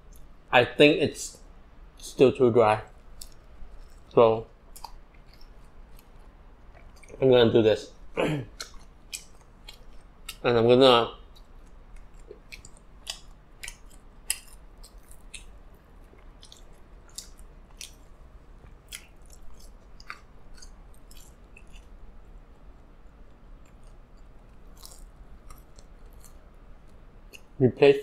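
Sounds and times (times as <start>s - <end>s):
crunchy coating crackling: 0.0s - 28.0s
chewing fried chicken: 2.9s - 27.6s.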